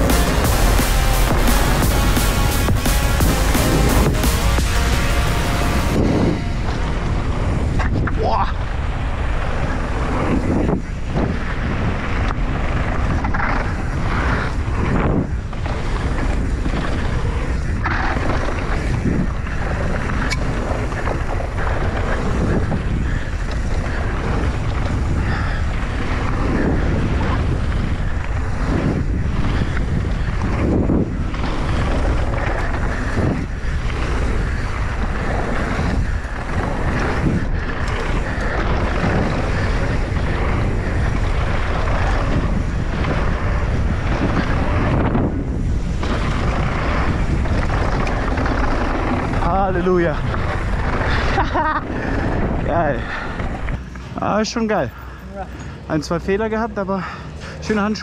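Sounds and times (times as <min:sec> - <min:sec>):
tyres rumbling on trail: 0:00.0 - 0:58.0
wind rushing over microphone: 0:00.0 - 0:58.0.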